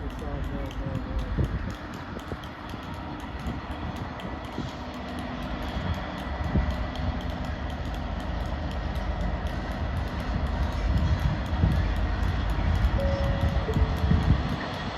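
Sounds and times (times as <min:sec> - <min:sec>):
train rumbling on tracks: 0:00.0 - 0:14.9.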